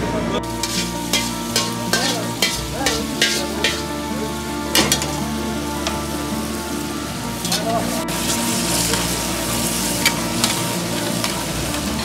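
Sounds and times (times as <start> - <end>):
faint background music: 0.0 - 12.0
food sizzling in a wok: 0.4 - 12.0
metal ladle scraping a pan: 0.4 - 12.0.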